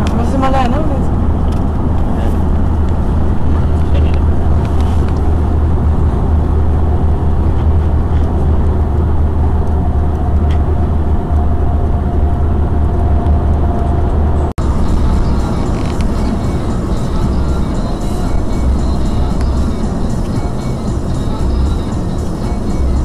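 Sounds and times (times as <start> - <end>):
car cabin road rumble: 0.0 - 23.0.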